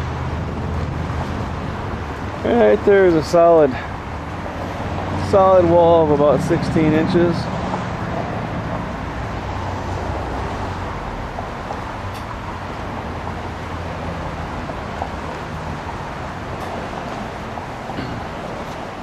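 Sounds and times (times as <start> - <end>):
cars passing on street: 0.0 - 19.0.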